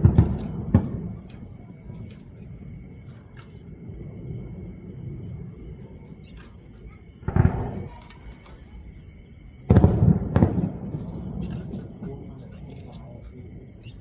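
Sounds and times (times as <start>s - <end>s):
fireworks booming: 0.0s - 14.0s.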